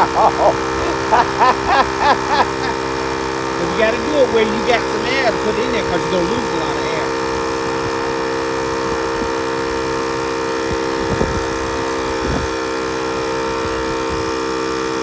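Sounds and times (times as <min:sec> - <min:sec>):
air compressor buzzing drone: 0:00.0 - 0:15.0.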